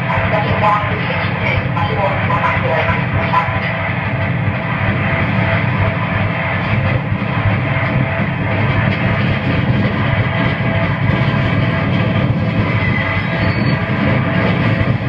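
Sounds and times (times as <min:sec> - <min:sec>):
distorted noise music: 0:00.0 - 0:15.0.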